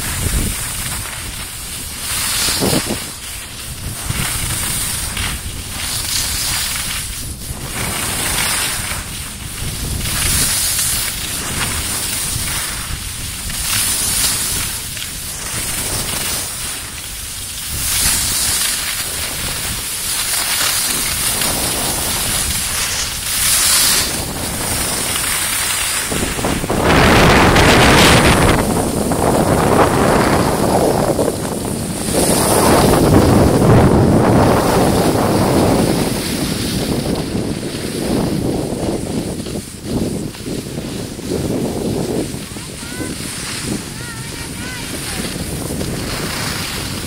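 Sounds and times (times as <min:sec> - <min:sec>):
ski edges scraping snow: 0:00.0 - 0:47.0
wind rushing over microphone: 0:00.0 - 0:47.0.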